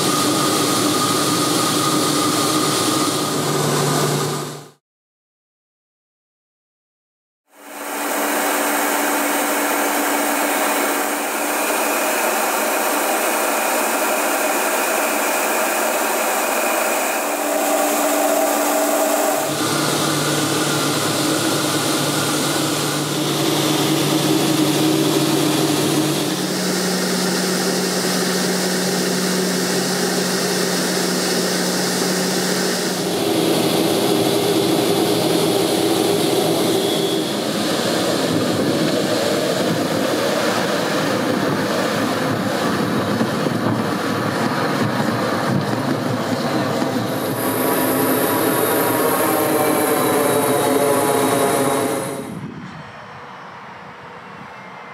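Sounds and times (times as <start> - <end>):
aircraft engine and propeller in flight: 0.0 - 4.8, 7.5 - 54.4.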